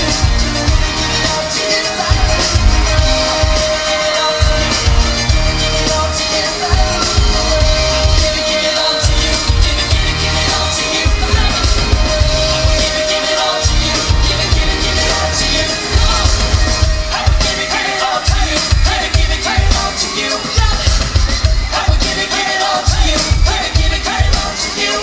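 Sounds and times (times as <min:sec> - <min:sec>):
heavy bass beat: 0:00.0 - 0:24.6
crowd noise: 0:00.0 - 0:25.0
live pop band: 0:00.0 - 0:25.0
person singing: 0:00.0 - 0:25.0.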